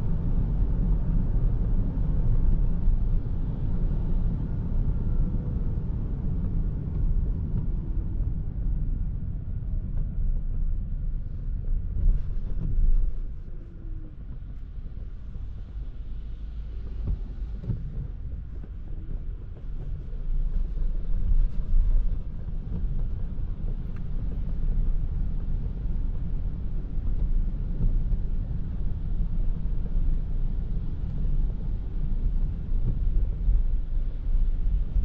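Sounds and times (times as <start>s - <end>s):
car tyres on wet road: 0.1s - 35.0s.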